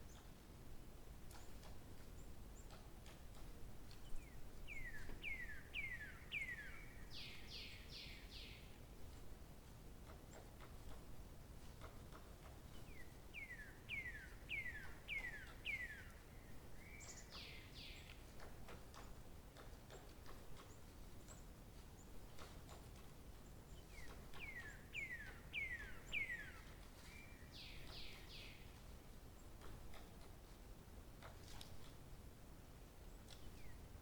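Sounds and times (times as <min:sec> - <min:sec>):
songbird singing: 0:00.0 - 0:00.4, 0:01.2 - 0:09.4, 0:11.7 - 0:30.2, 0:33.0 - 0:34.0.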